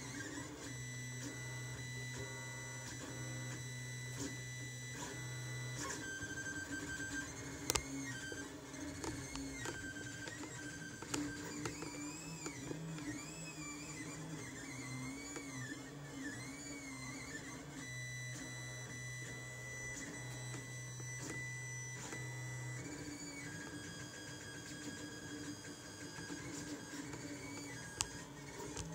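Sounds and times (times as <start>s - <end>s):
stepper motors whining: 0.0s - 28.9s.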